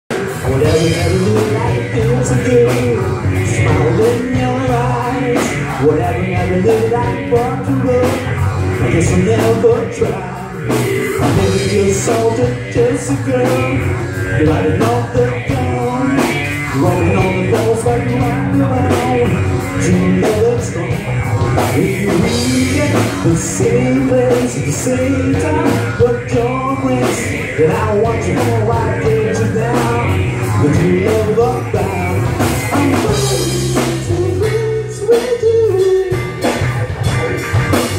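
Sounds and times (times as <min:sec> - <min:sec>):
bass guitar: 0:00.0 - 0:37.9
drums: 0:00.0 - 0:37.9
man singing: 0:00.1 - 0:37.6
electric guitar: 0:00.1 - 0:37.9.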